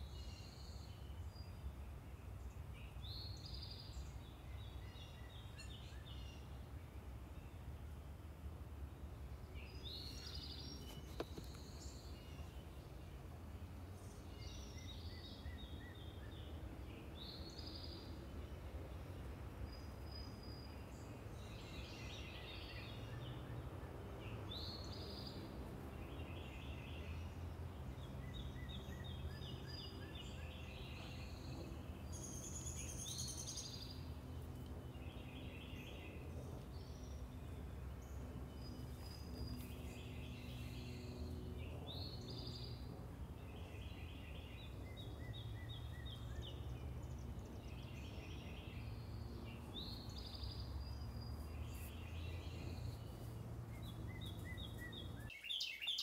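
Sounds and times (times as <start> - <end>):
birds singing: 0.0 - 7.8, 9.4 - 56.0
distant traffic hum: 0.0 - 56.0.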